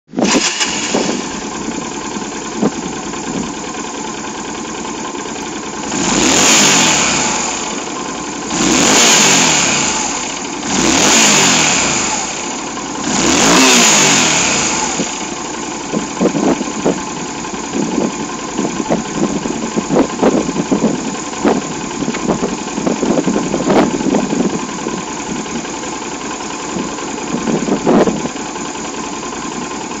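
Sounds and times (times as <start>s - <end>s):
motorcycle engine idling and revving: 0.1s - 30.0s.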